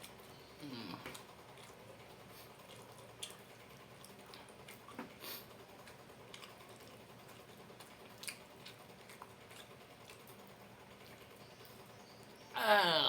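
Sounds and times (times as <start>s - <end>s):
person chewing crispy food: 0.0s - 11.9s.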